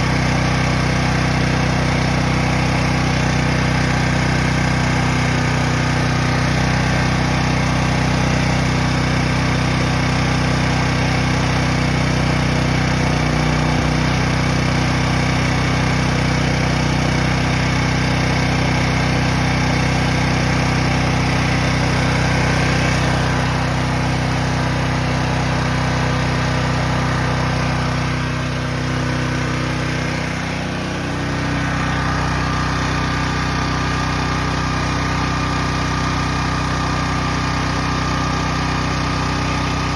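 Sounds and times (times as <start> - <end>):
portable generator engine running: 0.0 - 39.9.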